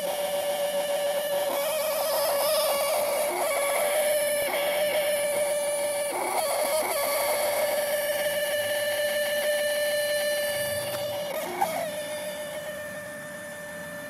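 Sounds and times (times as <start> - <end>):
high-pitched whine inside car: 0.0 - 14.0.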